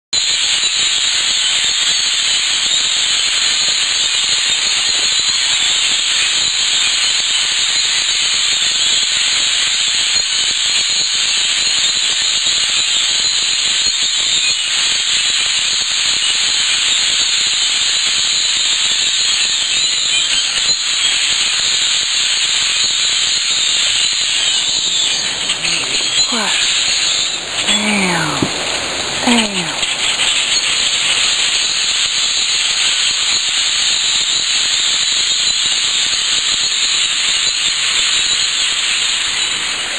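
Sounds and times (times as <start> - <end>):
flock of birds calling: 0.2 - 39.9.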